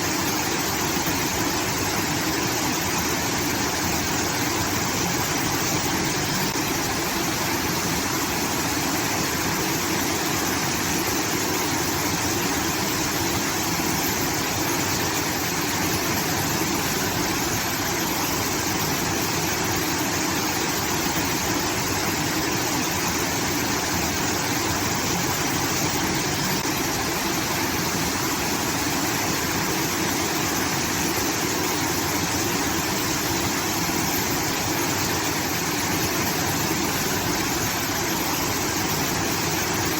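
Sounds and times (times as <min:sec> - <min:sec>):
water pouring and rushing: 0:00.0 - 0:39.9.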